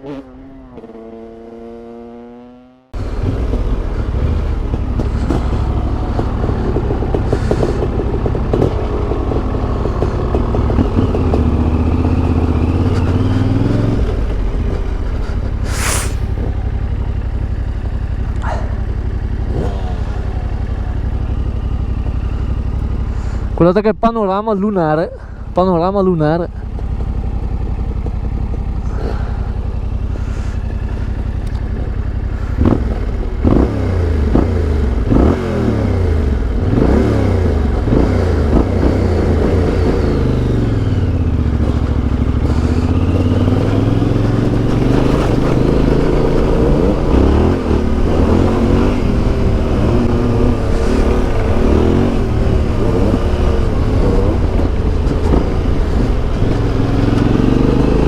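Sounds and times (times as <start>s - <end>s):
motorcycle engine revving: 0.0s - 23.6s, 25.2s - 58.0s.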